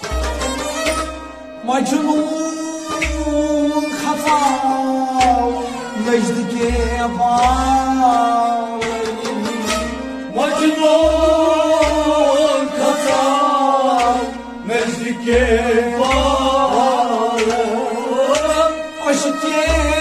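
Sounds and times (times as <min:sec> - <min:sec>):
harmonium melody: 0:00.0 - 0:20.0
low thudding beat: 0:00.0 - 0:20.0.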